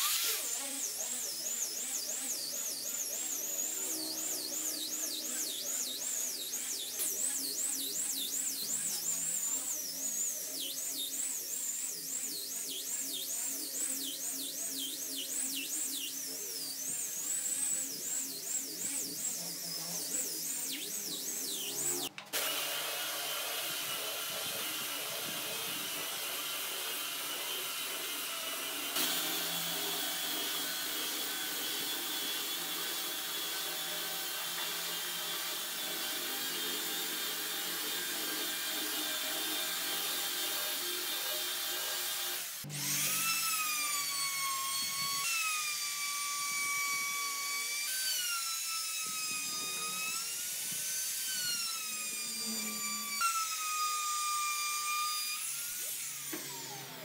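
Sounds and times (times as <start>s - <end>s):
belt sander running: 0.0s - 57.0s
grinder whining: 0.0s - 57.0s
router whining: 0.0s - 57.0s.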